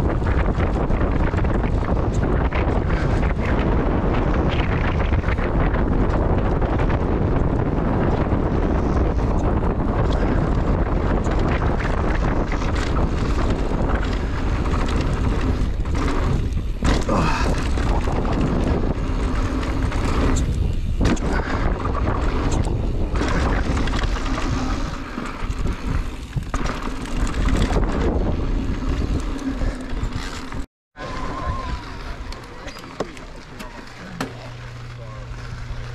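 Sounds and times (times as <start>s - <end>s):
wind rushing over microphone: 0.0s - 32.4s
bike rattling over ground: 0.0s - 35.9s.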